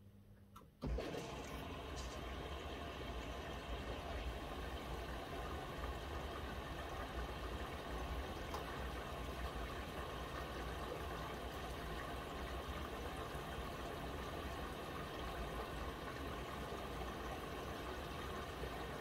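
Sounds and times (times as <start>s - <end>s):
water flowing into washing machine: 0.8s - 19.0s.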